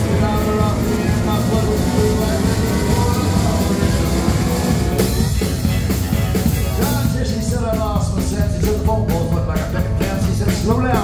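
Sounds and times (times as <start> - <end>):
live country band playing: 0.0 - 11.0.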